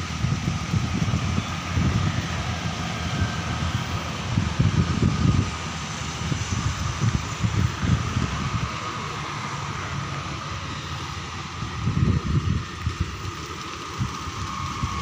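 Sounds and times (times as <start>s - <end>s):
wind buffeting microphone: 0.0s - 10.2s, 11.2s - 15.0s
steady high hiss: 0.0s - 15.0s.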